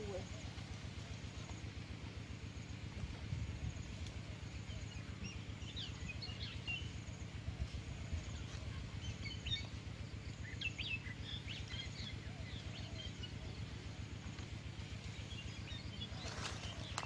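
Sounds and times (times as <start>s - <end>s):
low steady rumble: 0.0s - 17.0s
small birds chirping: 2.4s - 17.0s.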